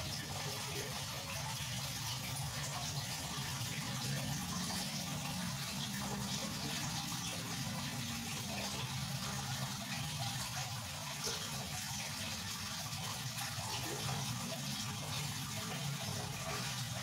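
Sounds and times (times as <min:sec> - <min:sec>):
water trickling into tank: 0:00.0 - 0:17.0.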